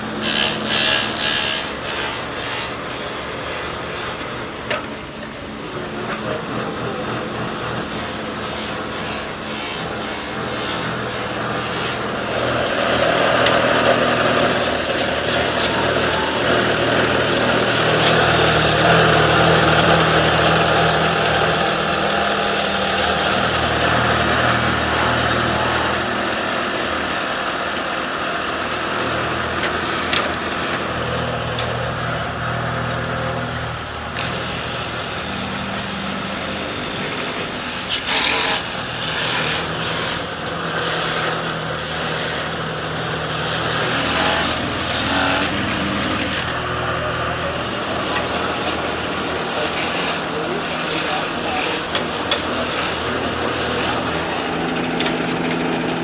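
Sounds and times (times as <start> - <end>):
workshop machinery running: 0.0 - 56.0.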